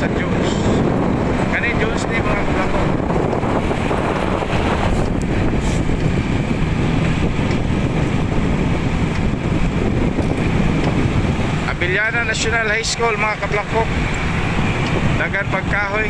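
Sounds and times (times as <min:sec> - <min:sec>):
wind rumble on microphone: 0:00.0 - 0:16.0
motorcycle engine running: 0:00.8 - 0:16.0.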